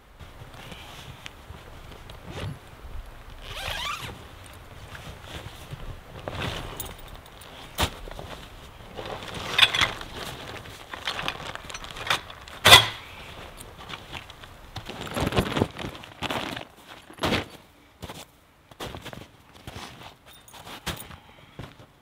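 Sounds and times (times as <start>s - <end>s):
canvas rustling and flapping: 0.0s - 18.3s.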